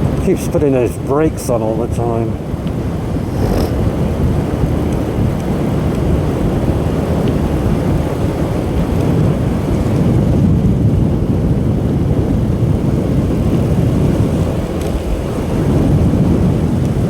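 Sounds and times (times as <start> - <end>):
motorcycle engine rumble: 0.0 - 17.0
wind buffeting microphone: 0.0 - 17.0.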